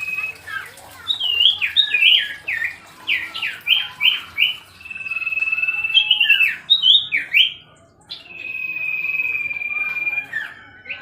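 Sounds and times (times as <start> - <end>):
bird singing clear whistles: 0.0 - 11.0.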